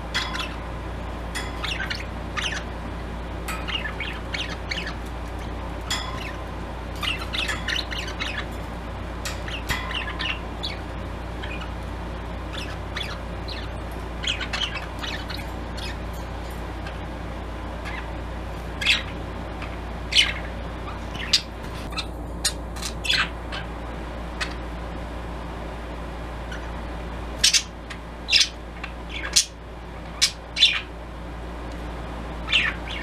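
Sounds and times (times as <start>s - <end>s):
budgerigars chirping and chattering: 0.0s - 2.9s, 3.5s - 23.7s, 24.4s - 24.6s, 27.4s - 30.9s, 32.4s - 33.0s.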